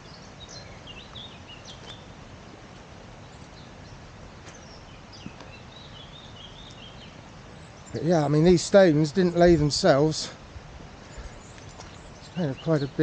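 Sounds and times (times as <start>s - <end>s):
outdoor background hiss: 0.0s - 13.0s
small birds chirping: 0.0s - 13.0s.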